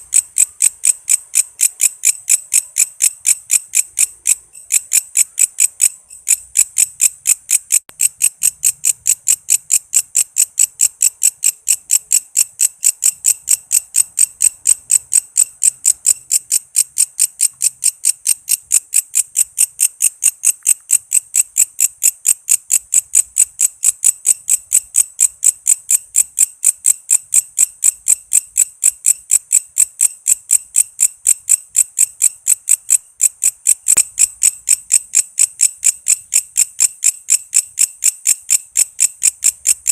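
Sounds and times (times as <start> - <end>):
katydid chirping: 0.0 - 39.9.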